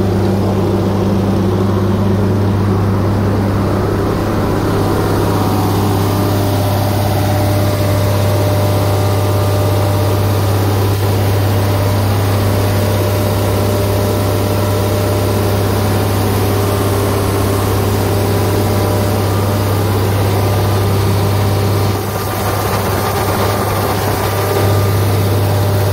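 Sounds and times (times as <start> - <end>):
shredder engine droning: 0.0 - 25.9.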